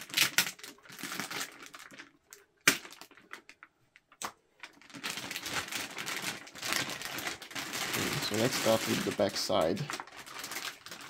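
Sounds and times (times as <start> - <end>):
plastic wrapping crinkling: 0.0 - 11.0
sharp plastic crack: 0.0 - 11.0.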